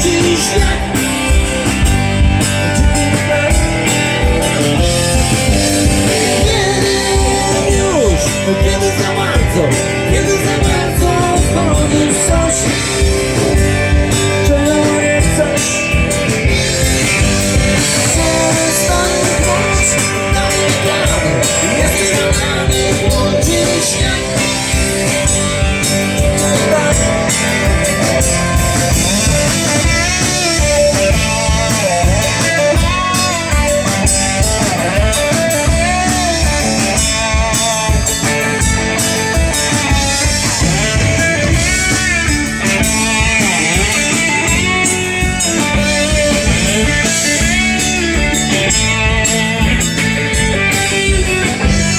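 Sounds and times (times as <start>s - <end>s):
band playing blues rock: 0.0s - 51.9s
lead guitar bending notes: 0.0s - 51.9s.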